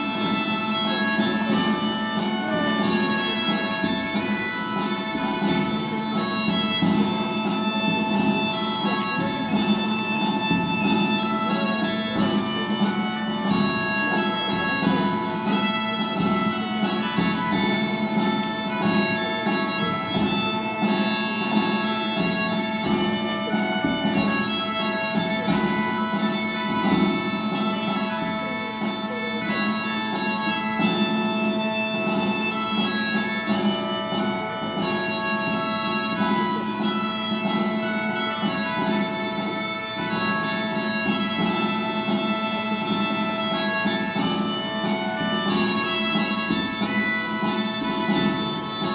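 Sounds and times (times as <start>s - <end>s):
bagpipe music: 0.0s - 48.9s.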